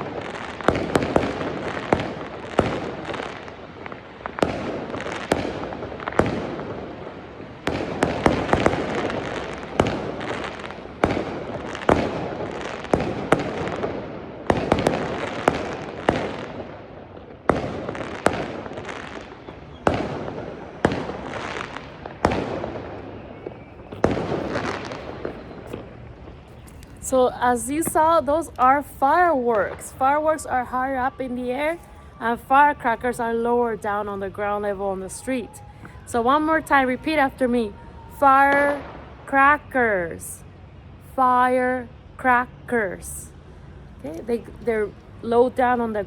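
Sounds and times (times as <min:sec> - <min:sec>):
fireworks banging and crackling: 0:00.0 - 0:39.6.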